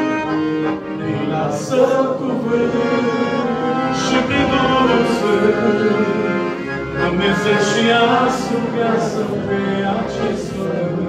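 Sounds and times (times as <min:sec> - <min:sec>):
accordion accompaniment: 0:00.0 - 0:11.0
man singing: 0:01.0 - 0:11.0.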